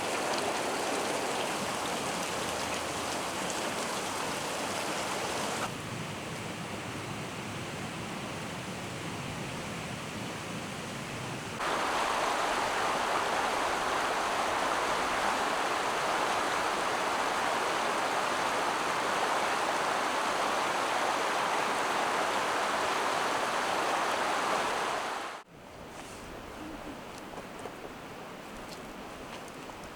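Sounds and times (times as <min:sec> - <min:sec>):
running water rushing: 0:00.0 - 0:05.7, 0:11.6 - 0:29.9.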